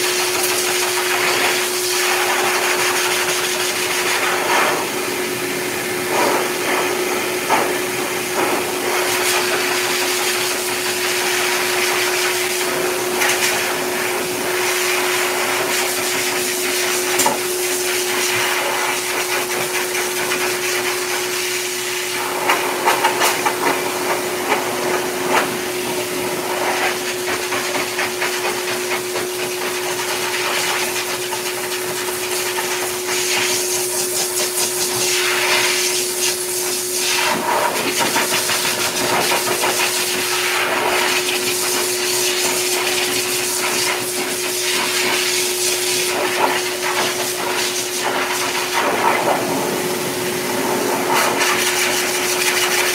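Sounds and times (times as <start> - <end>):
dog dryer air rushing: 0.0 - 52.9.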